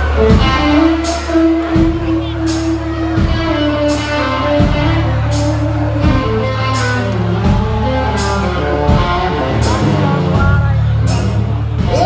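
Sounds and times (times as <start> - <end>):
guitar: 0.0 - 12.0
rock band playing live: 0.0 - 12.0.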